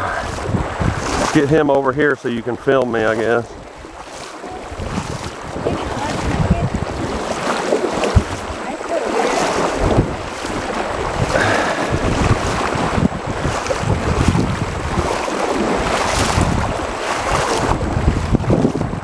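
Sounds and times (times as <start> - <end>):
shallow river flowing: 0.0 - 19.0
wind buffeting microphone: 0.0 - 19.0.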